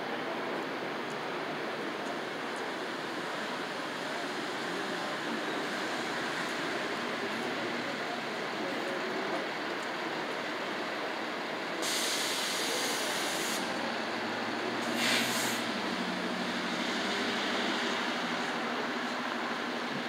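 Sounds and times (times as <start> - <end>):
traffic on wet pavement: 0.1 - 20.0.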